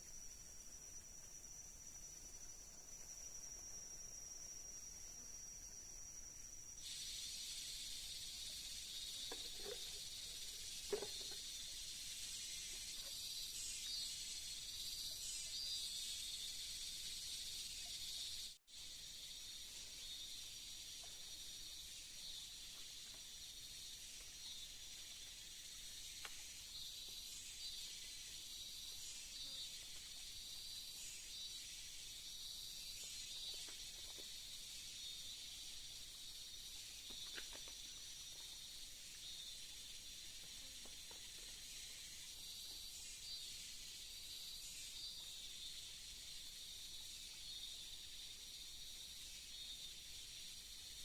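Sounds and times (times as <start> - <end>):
forest insects chorus: 0.0 - 51.0.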